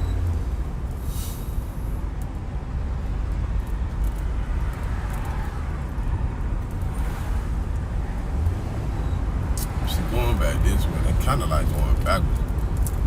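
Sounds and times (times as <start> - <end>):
car engine and road rumble: 0.0 - 13.0
wind: 0.0 - 13.0.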